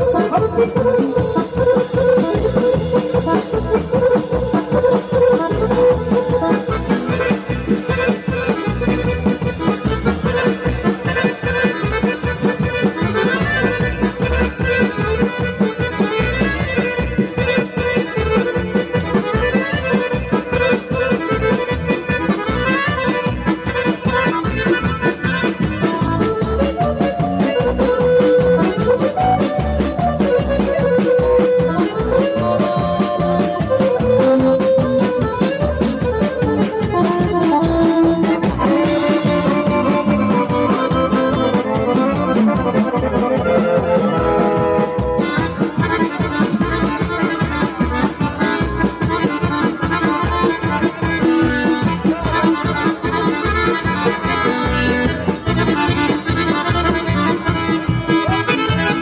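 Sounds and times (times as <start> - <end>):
accordion-like lead melody: 0.0 - 59.0
live folk dance band: 0.0 - 59.0.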